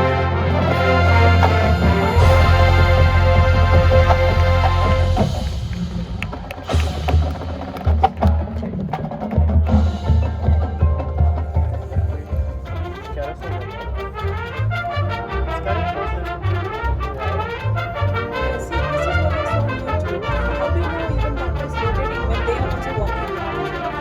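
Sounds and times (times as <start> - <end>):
marching band playing: 0.0 - 24.0
percussion hits: 0.0 - 24.0.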